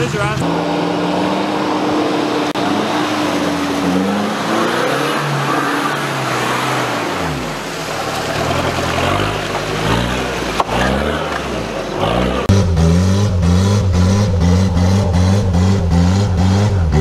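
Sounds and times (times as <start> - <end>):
engine revving: 0.0 - 17.0
tyres churning mud: 0.0 - 17.0.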